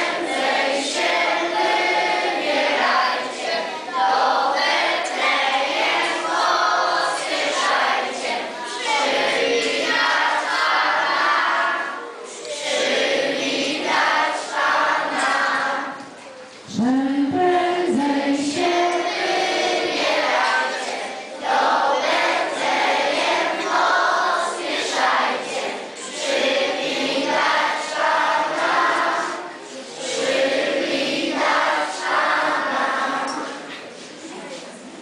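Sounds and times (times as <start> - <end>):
group of people singing a carol: 0.0 - 16.1, 16.7 - 34.4.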